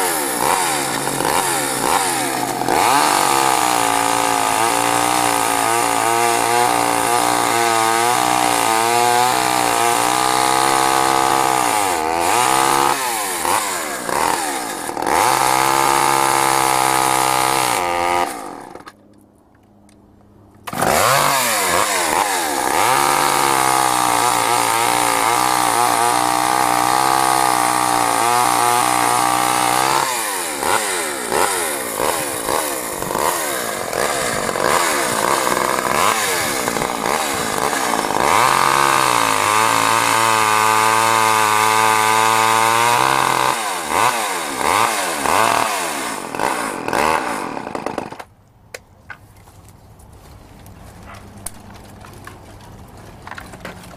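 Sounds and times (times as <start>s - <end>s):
chainsaw at high throttle: 0.0s - 18.9s, 20.7s - 48.3s.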